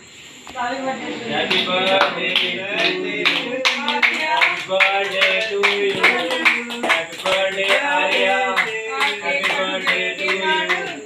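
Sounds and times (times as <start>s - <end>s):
group singing together: 0.5s - 11.0s
hands clapping in a beat: 1.4s - 11.0s.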